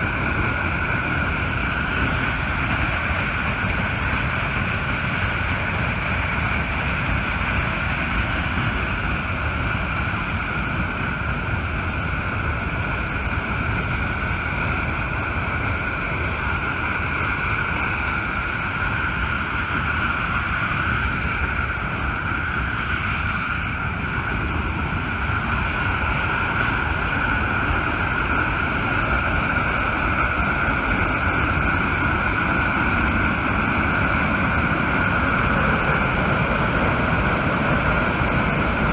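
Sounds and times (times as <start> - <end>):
water jet roaring from dam: 0.0 - 38.9.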